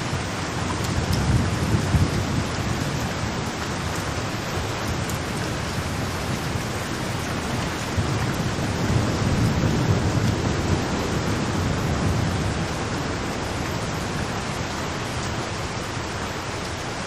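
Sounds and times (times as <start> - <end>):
low rolling thunder: 0.0 - 15.4
steady rain falling: 0.0 - 17.0.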